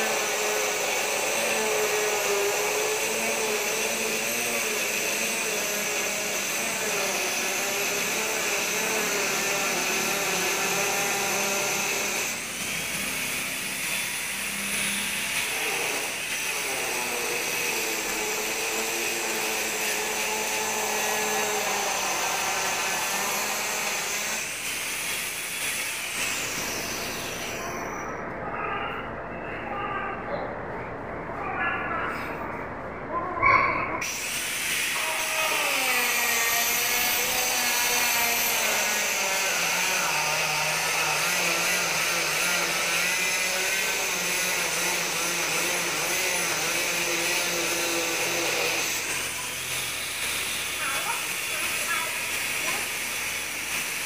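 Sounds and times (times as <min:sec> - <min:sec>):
power tool motor whine: 0:00.0 - 0:28.4, 0:34.0 - 0:54.0.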